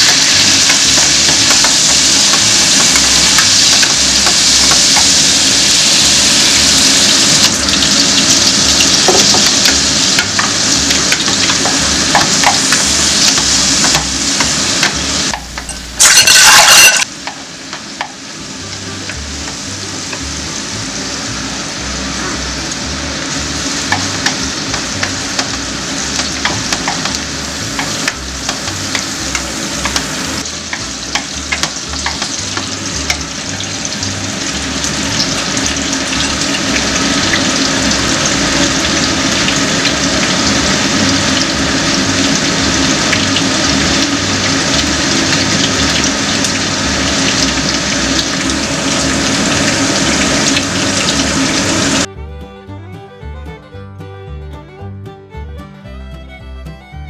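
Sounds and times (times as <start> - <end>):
seasoning frying in hot oil: 0.0 - 52.1.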